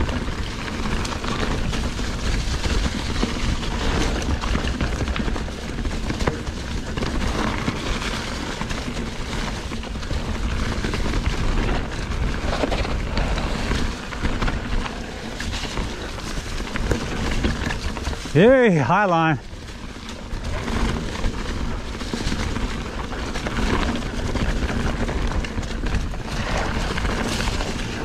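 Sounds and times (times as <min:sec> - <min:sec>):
bike tyres crunching over leaves: 0:00.0 - 0:28.0.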